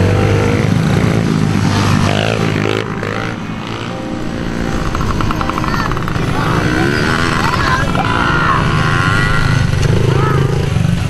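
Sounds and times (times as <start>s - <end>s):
dirt bike engines passing: 0.0s - 11.0s.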